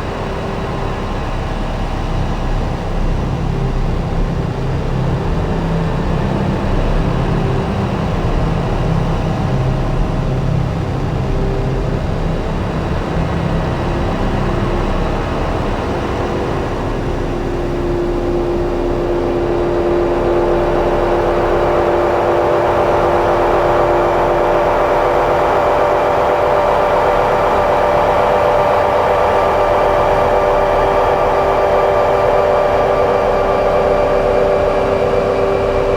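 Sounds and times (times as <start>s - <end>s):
rumbling noisy electronic drone: 0.0s - 35.9s.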